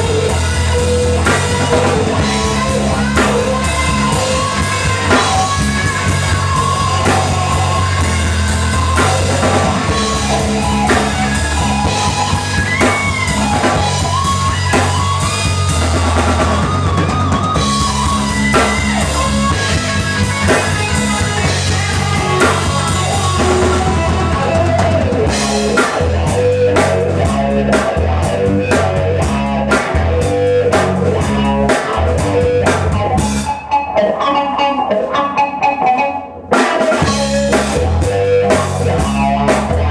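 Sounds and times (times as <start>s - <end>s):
bass: 0.0s - 39.9s
drum kit: 0.0s - 39.9s
electric guitar: 0.0s - 39.9s.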